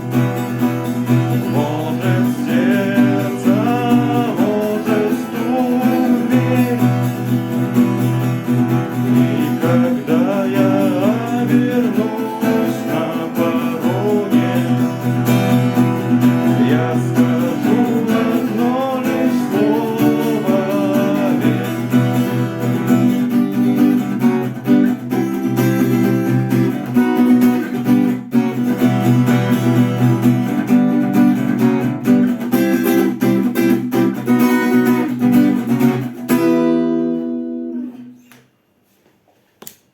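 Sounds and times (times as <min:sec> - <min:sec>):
acoustic guitar strumming chords: 0:00.0 - 0:38.2.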